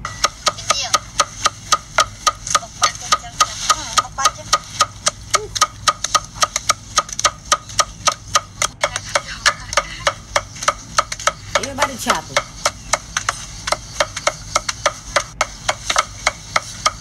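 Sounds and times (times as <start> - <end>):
cleaver chopping on wooden board: 0.0 - 17.0.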